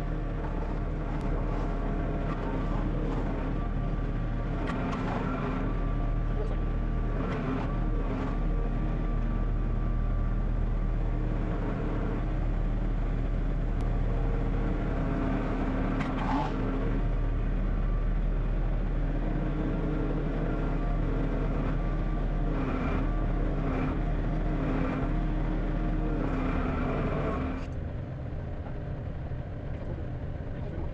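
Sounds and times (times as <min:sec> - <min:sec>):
vehicle engine running: 0:00.0 - 0:30.9.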